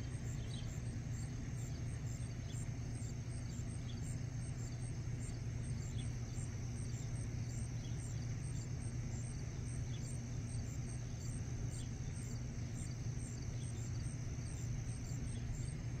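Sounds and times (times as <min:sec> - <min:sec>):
crickets chirping: 0:00.0 - 0:16.0
steady high insect trill: 0:00.0 - 0:16.0
steady low hum: 0:00.0 - 0:16.0.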